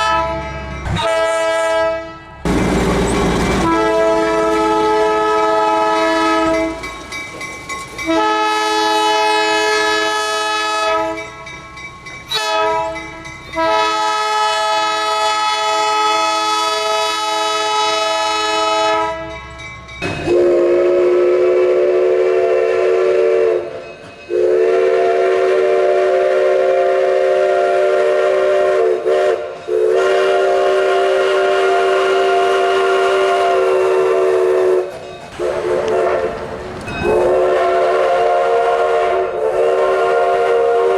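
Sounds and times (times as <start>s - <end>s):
locomotive air horn blasts: 0.0s - 2.5s, 3.6s - 6.8s, 8.0s - 11.2s, 12.3s - 13.0s, 13.6s - 19.4s, 20.3s - 36.4s, 37.0s - 40.9s
steam locomotive chime whistle: 0.0s - 40.9s.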